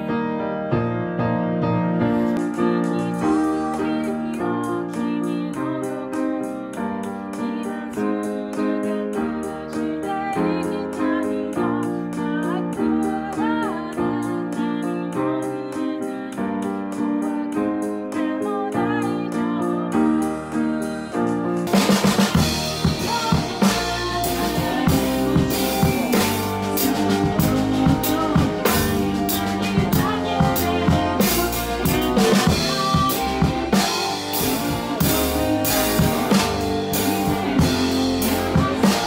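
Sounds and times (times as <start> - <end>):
upright piano chords: 0.0 - 39.0
woman singing: 2.2 - 39.0
ticking backing beat: 2.3 - 39.0.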